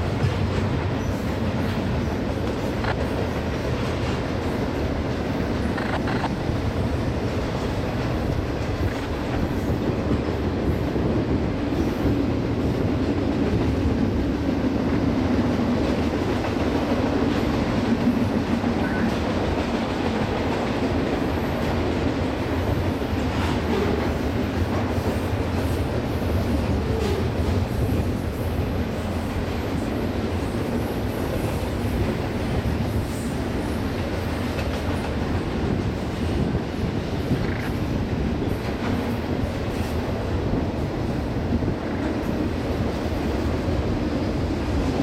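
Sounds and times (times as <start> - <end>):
freight train wheels rumbling: 0.0 - 45.0
train wheels clickety-clack: 0.0 - 45.0.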